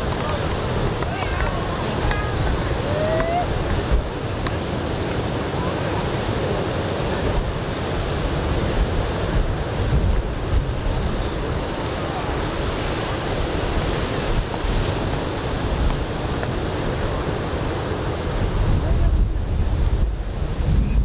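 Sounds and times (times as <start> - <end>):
ocean surf breaking on beach: 0.0 - 21.0
wind rumbling on microphone: 0.0 - 21.0.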